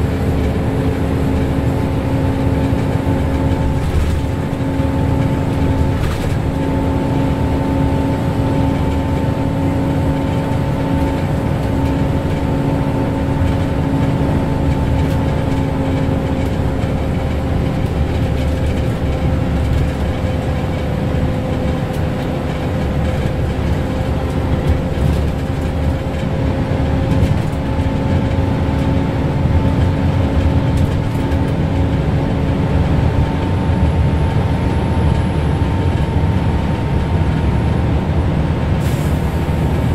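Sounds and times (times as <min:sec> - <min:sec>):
bus engine drone: 0:00.0 - 0:39.9
tyre and road noise: 0:00.0 - 0:39.9.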